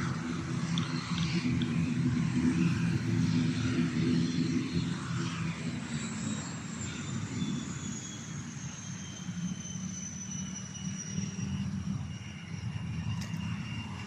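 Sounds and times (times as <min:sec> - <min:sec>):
engine drone with high whine: 0:00.0 - 0:14.0.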